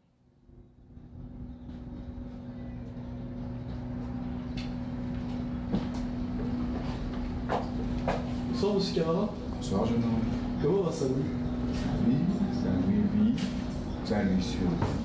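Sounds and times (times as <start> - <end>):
constant hum: 0.1 - 15.0
low street rumble: 0.3 - 15.0.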